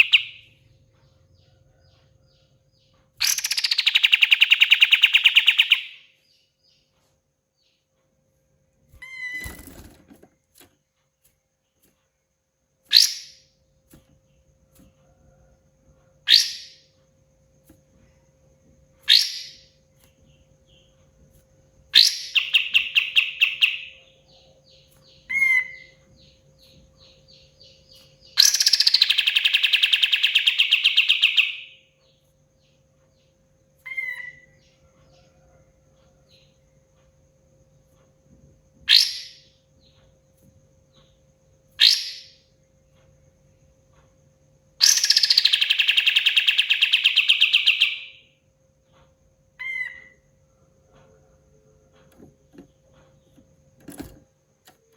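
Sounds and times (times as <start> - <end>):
rapid rattling bird trills: 0.0 - 6.4, 12.8 - 15.4, 16.2 - 54.9
songbird singing: 0.0 - 54.9.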